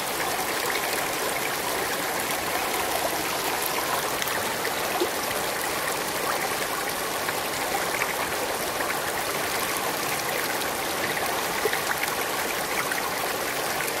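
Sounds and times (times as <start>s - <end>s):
stream running over rocks: 0.0s - 14.0s.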